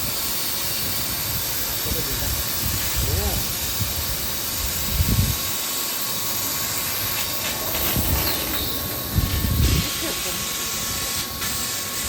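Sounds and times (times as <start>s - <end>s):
assist gas hissing: 0.0s - 12.0s
thin steady whine: 0.0s - 12.0s.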